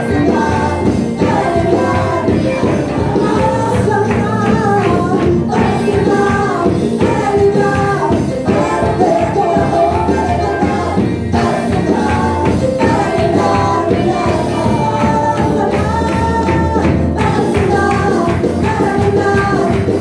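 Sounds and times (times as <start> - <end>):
voices singing worship song: 0.0 - 20.0.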